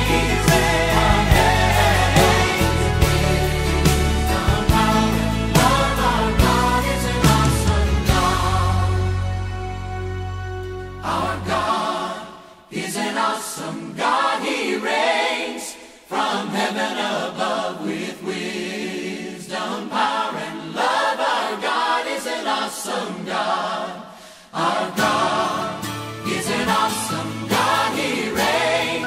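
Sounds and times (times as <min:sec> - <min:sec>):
choir singing: 0:00.0 - 0:10.1, 0:10.9 - 0:29.0.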